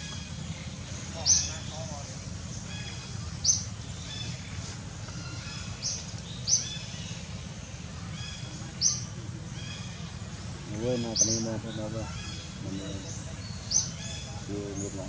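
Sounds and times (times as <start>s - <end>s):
bird high chirps: 0.0s - 15.0s
steady low hum: 0.0s - 15.0s.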